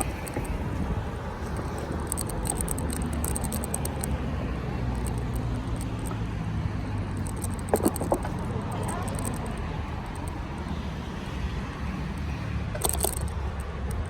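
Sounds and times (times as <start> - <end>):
bike mount rattling clicks: 0.0 - 6.2, 7.1 - 10.8, 12.2 - 14.0
road and wind rumble: 0.0 - 14.0.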